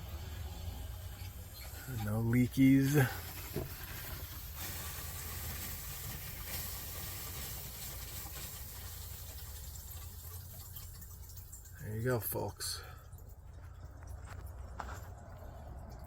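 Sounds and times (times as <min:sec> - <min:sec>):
water hissing through pipes: 0:00.0 - 0:16.0.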